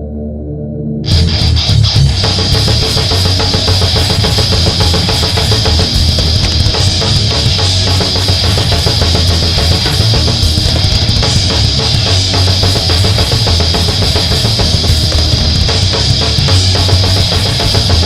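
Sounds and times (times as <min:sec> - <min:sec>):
bass guitar: 0:00.0 - 0:18.0
electric guitar: 0:00.0 - 0:18.0
heavy metal band playing: 0:01.0 - 0:18.0
drum kit rapid strokes: 0:01.1 - 0:18.0.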